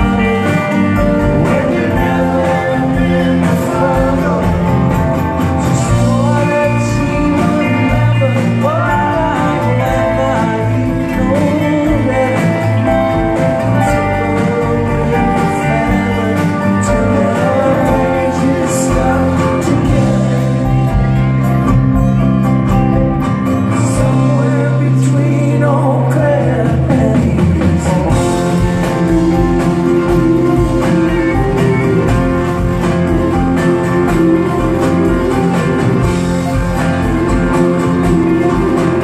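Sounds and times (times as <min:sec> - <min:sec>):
man singing: 0:00.0 - 0:21.3, 0:23.6 - 0:39.0
live band playing: 0:00.0 - 0:39.0.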